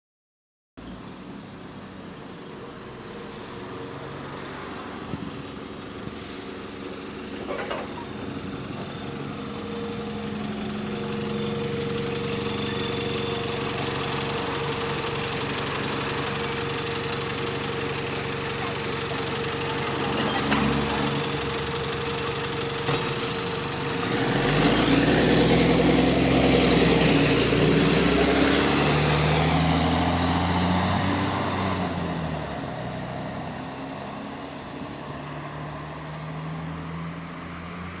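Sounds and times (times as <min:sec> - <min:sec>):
bus engine with exhaust leak: 0:00.8 - 0:38.0.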